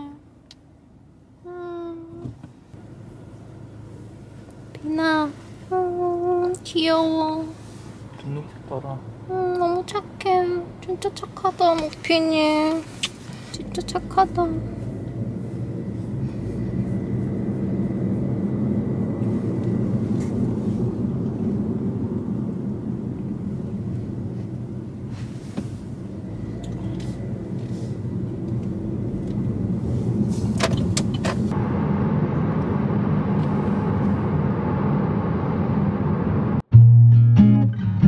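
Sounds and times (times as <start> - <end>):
car engine and road rumble: 0.0 - 36.8.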